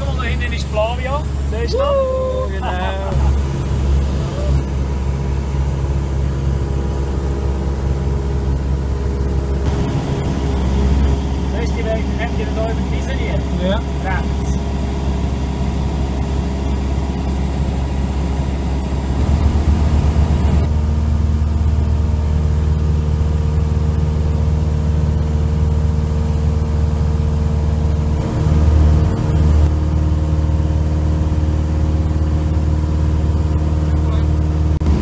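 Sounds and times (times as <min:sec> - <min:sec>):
light aircraft engine droning: 0:00.0 - 0:35.0.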